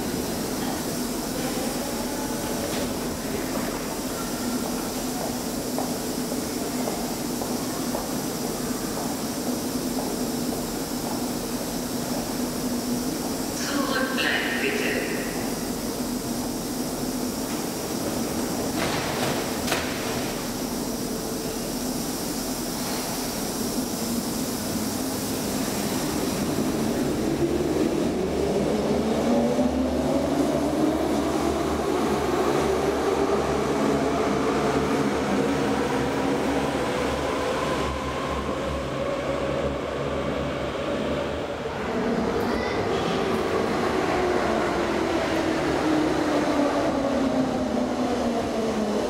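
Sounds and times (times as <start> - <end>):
low rumble of train: 0.0 - 49.0.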